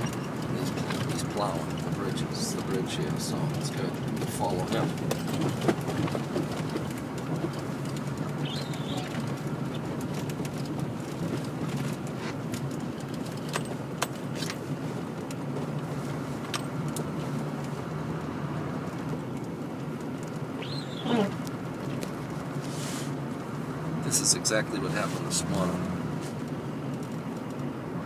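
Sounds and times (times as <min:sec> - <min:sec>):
engine and road hum: 0:00.0 - 0:28.0.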